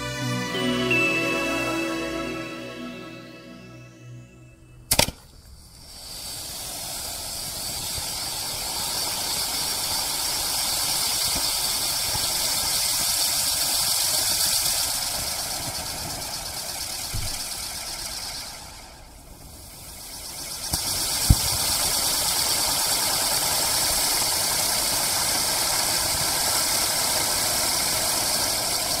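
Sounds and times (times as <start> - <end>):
firework crack: 4.9 - 29.0
hiss of spraying sparks: 4.9 - 29.0.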